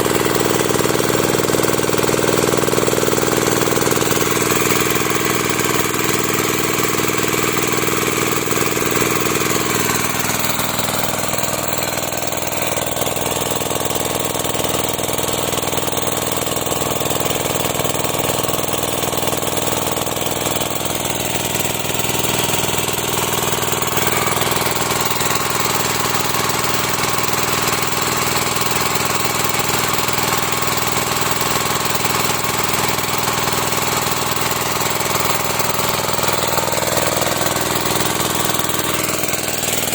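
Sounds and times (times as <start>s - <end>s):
sprayer engine running: 0.0s - 39.9s.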